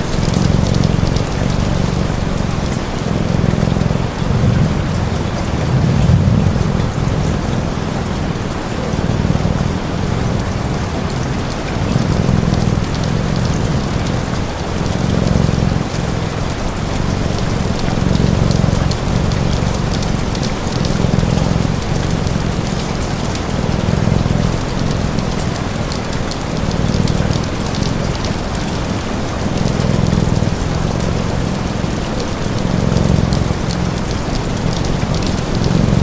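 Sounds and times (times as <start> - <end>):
cat purring: 0.0 - 36.0
faint fire crackle: 0.0 - 36.0
steady rain falling: 0.0 - 36.0.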